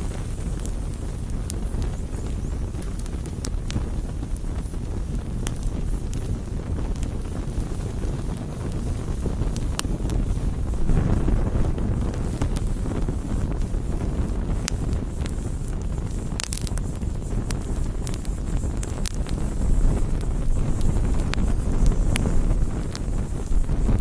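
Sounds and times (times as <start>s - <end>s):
campfire flames rushing: 0.0s - 24.0s
wood crackling and popping: 0.0s - 24.0s.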